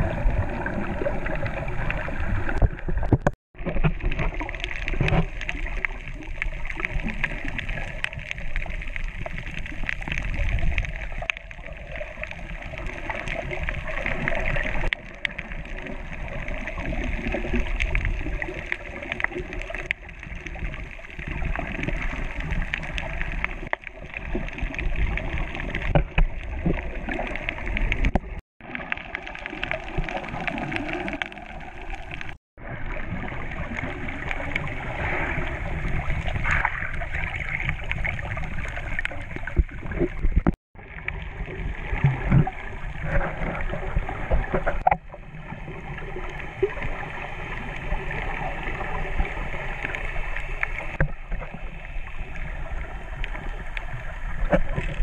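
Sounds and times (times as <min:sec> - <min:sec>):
underwater gurgling water: 0:00.0 - 0:55.0.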